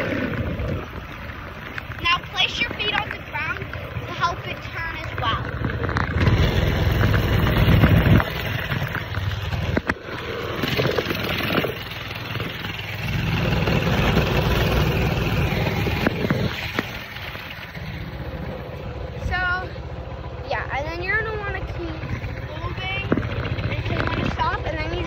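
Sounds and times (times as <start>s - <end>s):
mini bike engine running: 0.0s - 25.0s.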